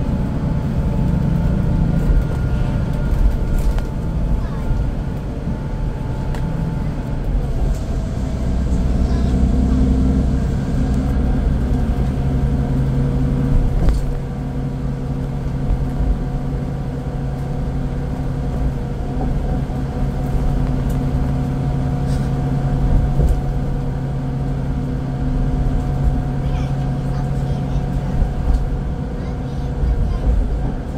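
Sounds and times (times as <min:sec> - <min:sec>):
bus diesel engine running: 0:00.0 - 0:30.9.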